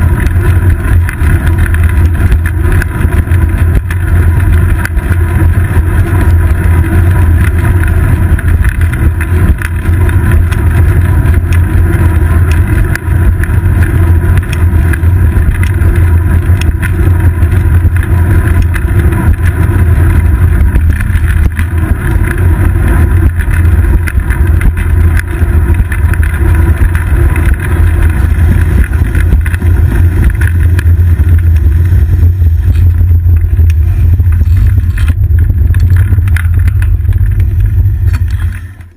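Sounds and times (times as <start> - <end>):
bike rolling on asphalt: 0.0 - 38.9
wind buffeting: 0.0 - 38.9.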